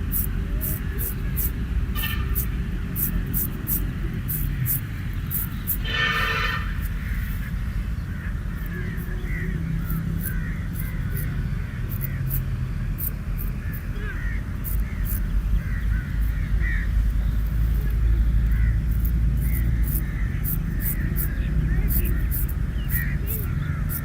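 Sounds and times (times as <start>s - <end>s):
birds chirping: 0.0s - 24.0s
steady low rumble: 0.0s - 24.0s.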